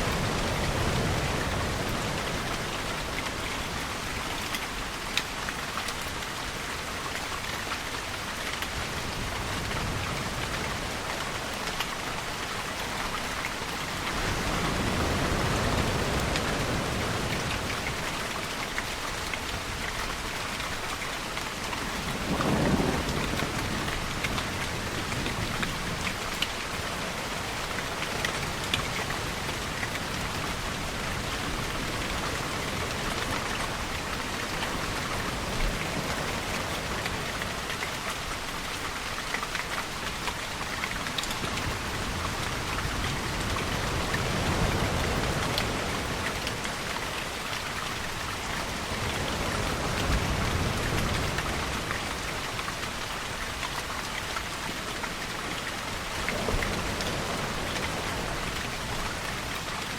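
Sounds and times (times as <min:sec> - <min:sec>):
rain drops ticking on surface: 0:00.0 - 0:59.9.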